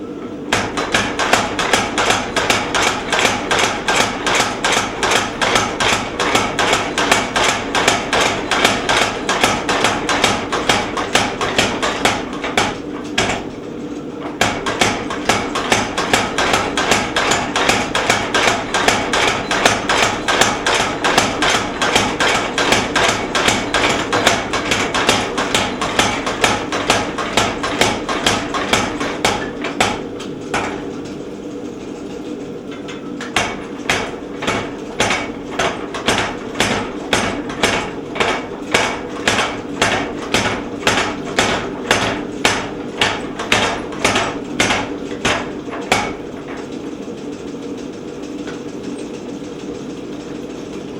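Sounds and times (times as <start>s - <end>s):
steady hum: 0.0s - 50.9s
power hammer pounding steel: 0.5s - 31.1s, 32.7s - 46.9s.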